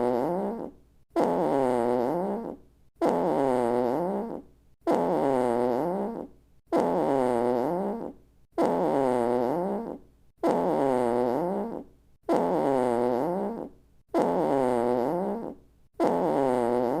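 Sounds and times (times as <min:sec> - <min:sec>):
comic fart sound effect: 0:00.0 - 0:17.0.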